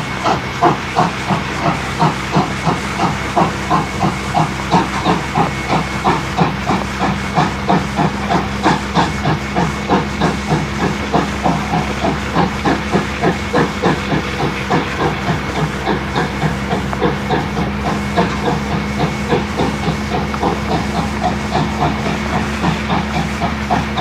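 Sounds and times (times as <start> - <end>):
hiss of steam: 0.0 - 24.0
steam locomotive exhaust beats: 0.0 - 24.0.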